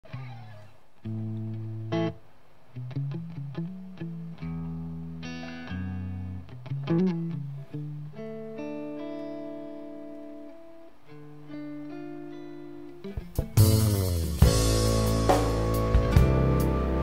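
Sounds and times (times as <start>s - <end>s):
guitar playing ringing chords: 0.1s - 17.0s.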